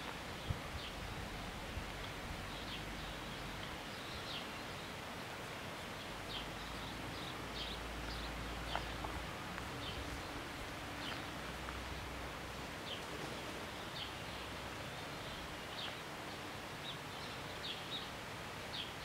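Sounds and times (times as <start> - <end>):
wind in leaves: 0.0 - 19.0
small birds chirping: 2.4 - 5.1, 5.8 - 19.0.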